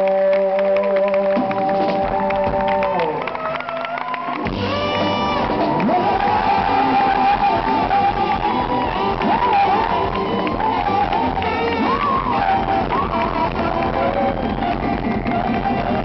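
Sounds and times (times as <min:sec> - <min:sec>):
crowd noise: 0:00.0 - 0:16.0
live band music: 0:00.0 - 0:16.0.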